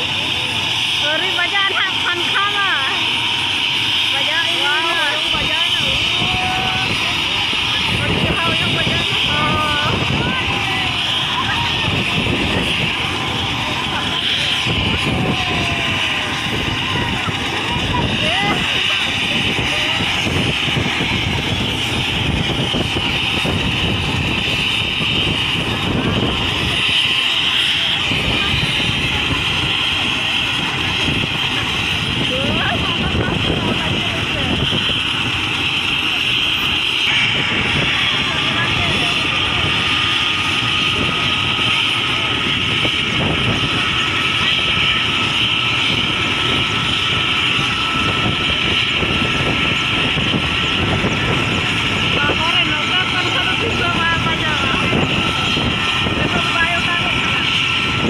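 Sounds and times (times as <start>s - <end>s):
helicopter rotor chop: 0.0s - 58.0s
helicopter turbine whine: 0.0s - 58.0s.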